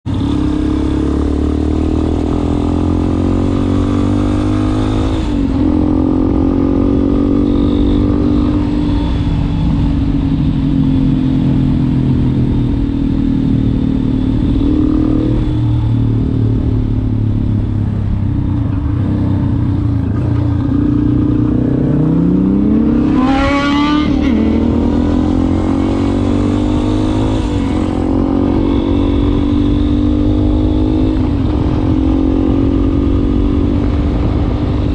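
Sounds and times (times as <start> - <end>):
motorcycle engine running and revving: 0.0 - 34.9.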